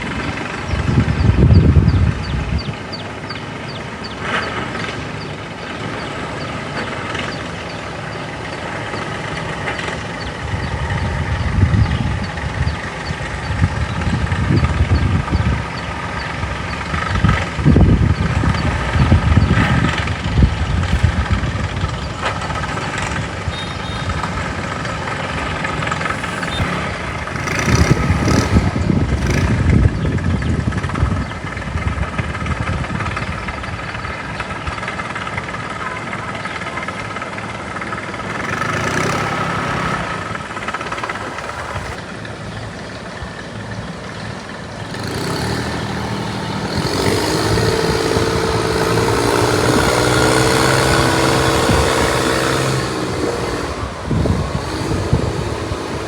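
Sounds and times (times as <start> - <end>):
boat engine running: 0.0 - 56.0
low rumbles: 0.0 - 56.0.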